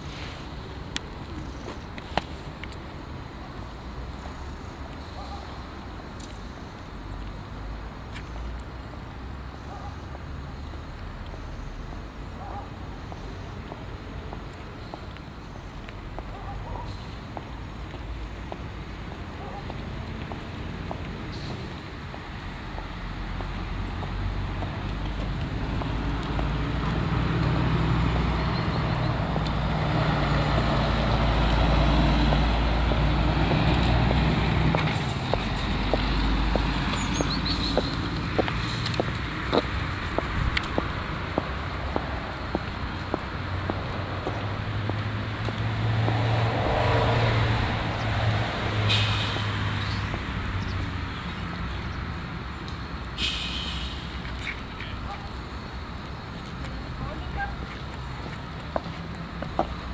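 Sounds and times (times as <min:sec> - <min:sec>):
road noise: 0:00.0 - 0:59.9.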